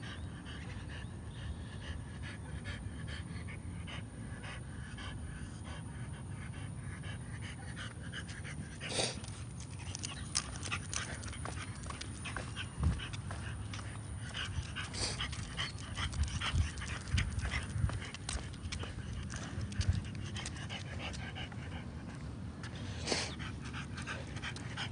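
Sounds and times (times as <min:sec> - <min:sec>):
dog panting: 0:00.0 - 0:24.9.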